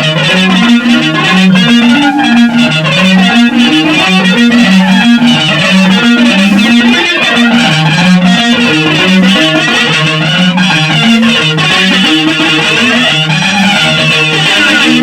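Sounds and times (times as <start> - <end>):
loud guitar music: 0.0 - 15.0.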